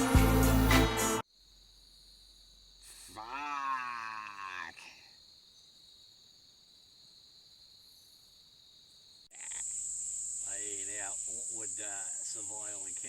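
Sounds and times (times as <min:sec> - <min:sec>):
insects droning: 0:00.5 - 0:13.0.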